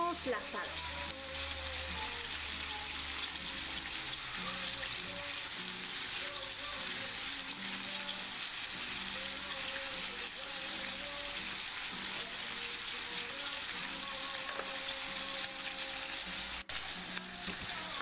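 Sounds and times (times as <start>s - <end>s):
meat sizzling in frying pan: 0.0s - 18.0s.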